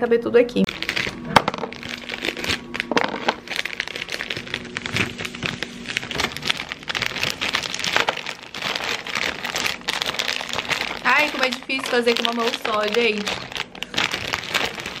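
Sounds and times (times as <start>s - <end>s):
gummy candies shaken out: 0.7s - 15.0s
plastic bag crinkling: 0.7s - 15.0s.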